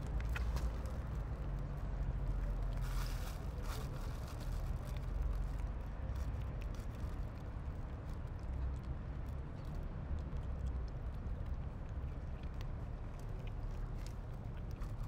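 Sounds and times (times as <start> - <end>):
cats crunching dry kibble: 0.0 - 15.0.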